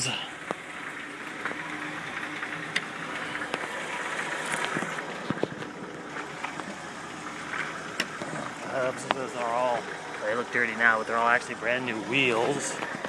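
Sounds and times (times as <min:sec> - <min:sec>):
van engine idling: 0:00.0 - 0:13.0.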